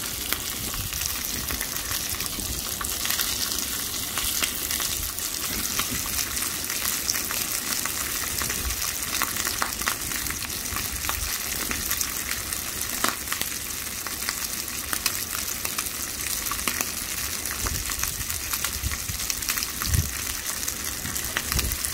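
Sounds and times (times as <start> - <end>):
bacon sizzling in a pan: 0.0 - 21.9
fat crackling and popping: 0.0 - 21.9.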